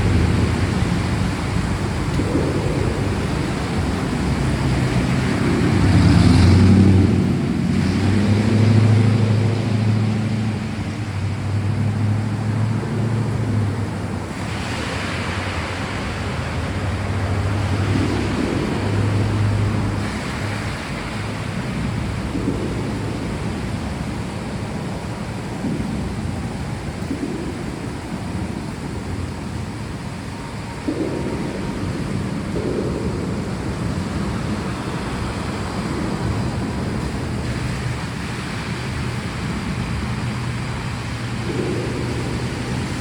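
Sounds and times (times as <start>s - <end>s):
steady rain: 0.0s - 43.0s
thunder rumbling: 0.0s - 43.0s.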